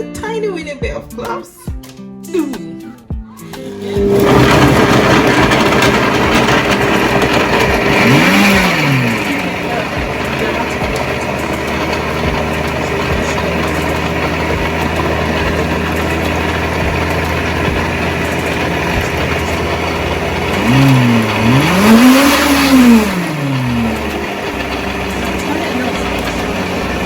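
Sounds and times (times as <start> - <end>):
electric blender running: 3.5 - 27.0.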